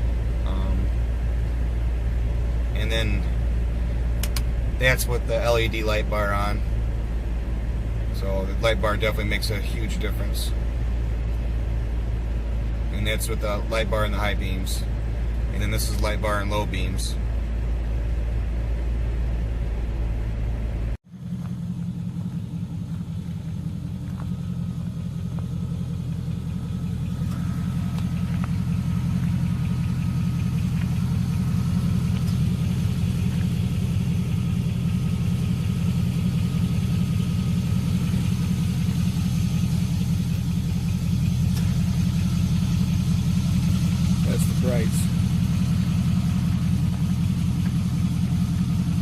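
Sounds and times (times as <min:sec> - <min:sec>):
pickup engine idling: 0:00.0 - 0:49.0.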